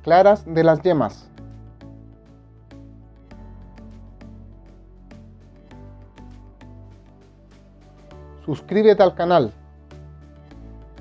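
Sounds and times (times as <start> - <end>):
instrumental music with steady pulse: 0.0 - 11.0.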